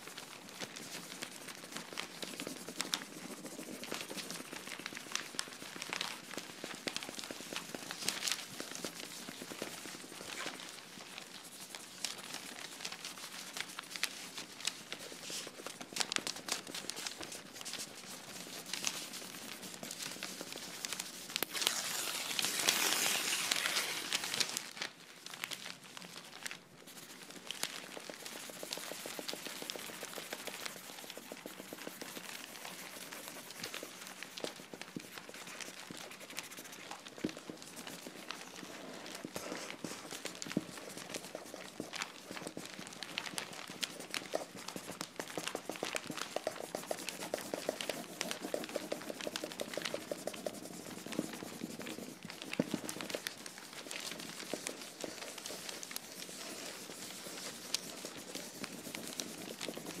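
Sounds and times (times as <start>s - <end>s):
paper crinkling and rustling: 0.0s - 60.0s.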